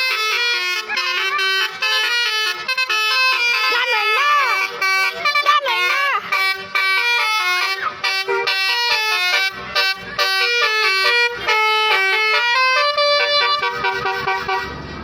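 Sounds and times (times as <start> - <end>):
musical air horn playing tune: 0.0 - 14.9.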